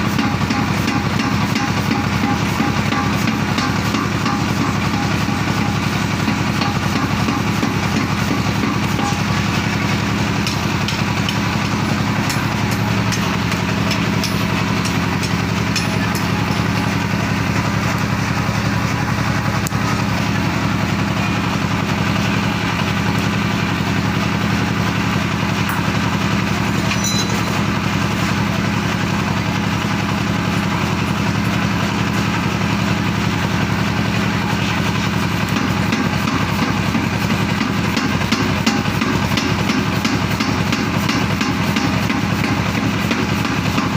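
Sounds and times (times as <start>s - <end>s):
power forging hammer pounding: 0.0s - 43.9s.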